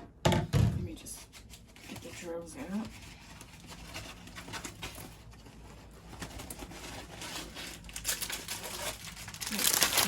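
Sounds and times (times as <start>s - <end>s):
plastic bags rustling and crinkling: 1.2s - 10.0s.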